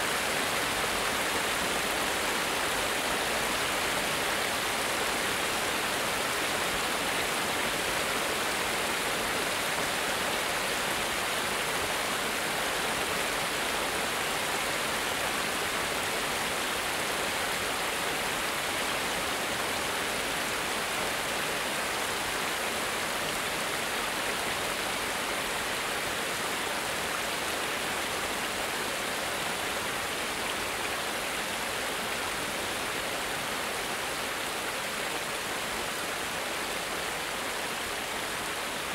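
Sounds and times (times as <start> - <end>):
water rushing over cascade: 0.0 - 38.9.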